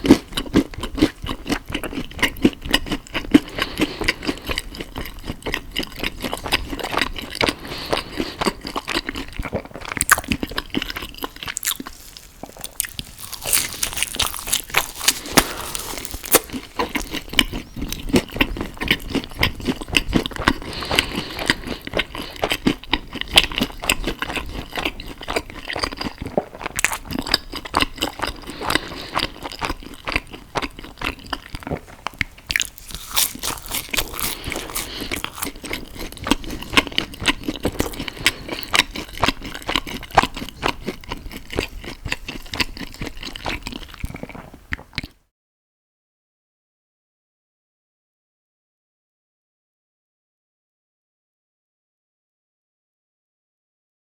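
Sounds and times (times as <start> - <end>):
person biting and chewing food: 0.0 - 45.1.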